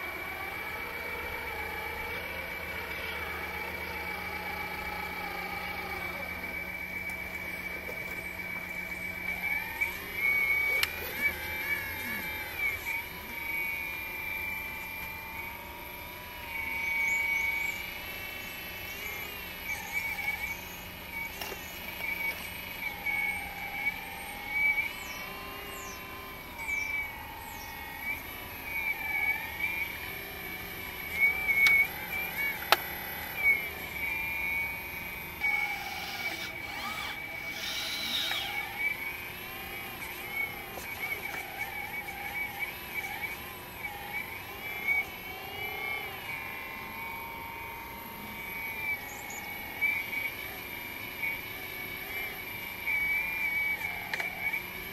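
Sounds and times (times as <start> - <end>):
hydraulic pump whining: 0.0 - 54.9.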